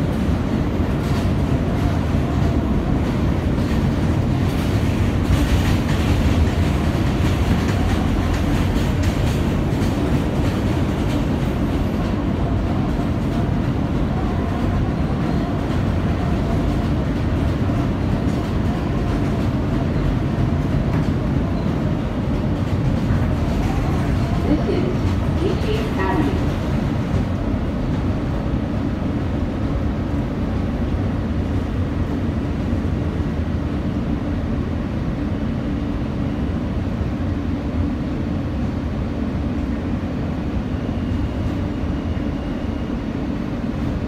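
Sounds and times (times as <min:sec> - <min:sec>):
subway car wheels rumbling: 0:00.0 - 0:44.0.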